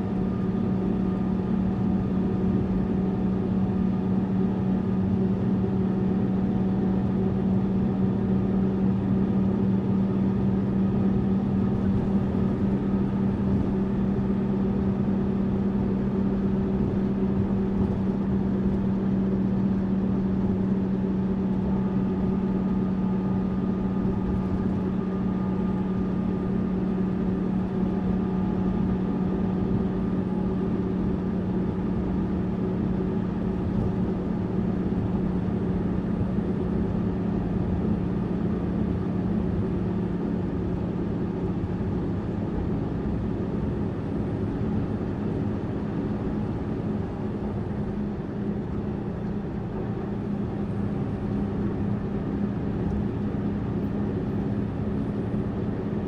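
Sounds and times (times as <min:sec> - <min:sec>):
bus engine drone: 0:00.0 - 0:56.0
road and tyre noise: 0:00.0 - 0:56.0.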